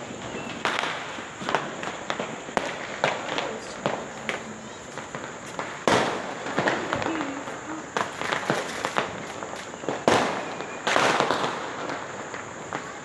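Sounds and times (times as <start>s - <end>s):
firework pops and crackles: 0.0s - 13.0s
loud firework bangs: 0.0s - 13.0s.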